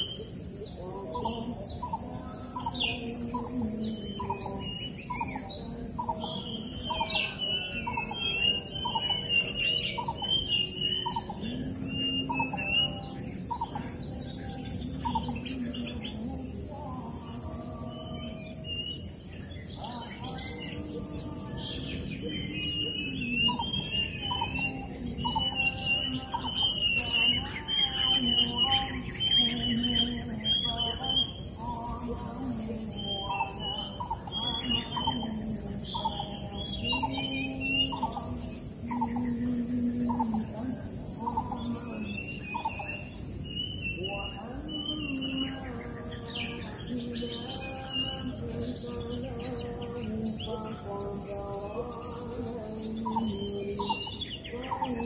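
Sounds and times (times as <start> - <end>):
high twittering bird chirps: 0.0 - 55.0.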